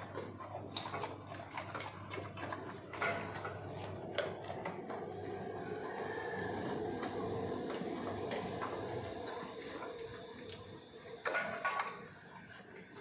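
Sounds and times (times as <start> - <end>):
dog crunching food: 0.0 - 13.0
steady low hum: 0.0 - 13.0.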